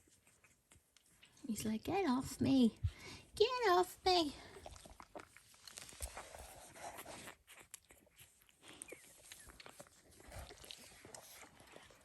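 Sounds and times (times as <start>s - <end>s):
faint rustling and clicks: 0.0s - 3.0s, 4.6s - 12.0s.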